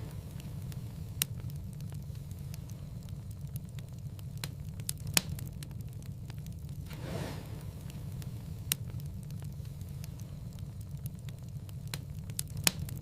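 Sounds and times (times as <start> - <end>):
fire sharp pops: 0.0 - 13.0
low rumble of burning: 0.0 - 13.0.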